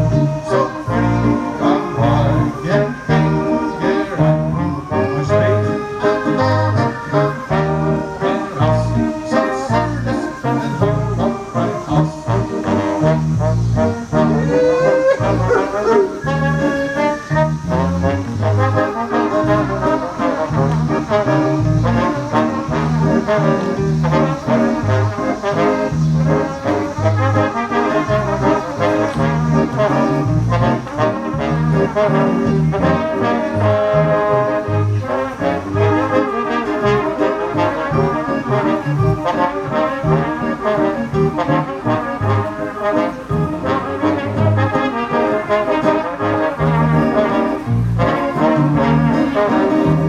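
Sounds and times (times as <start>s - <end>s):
brass-led music: 0.0s - 50.0s.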